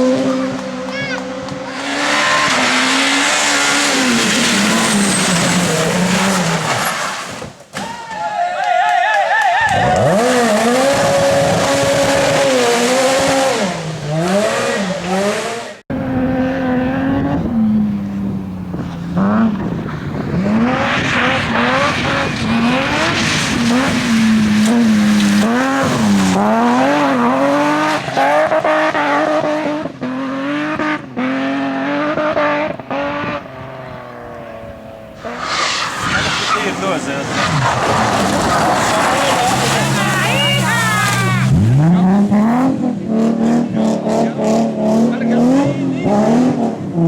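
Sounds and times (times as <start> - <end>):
rally car engines at full throttle: 0.0 - 7.7, 9.6 - 47.0.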